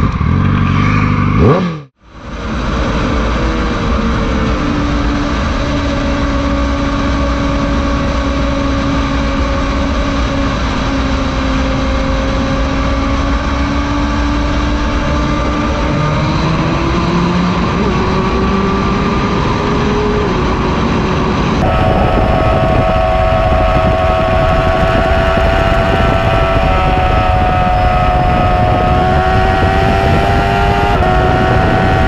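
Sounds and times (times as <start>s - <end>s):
heavy wind noise: 0.0s - 32.0s
motorcycle engine at high speed: 0.0s - 32.0s.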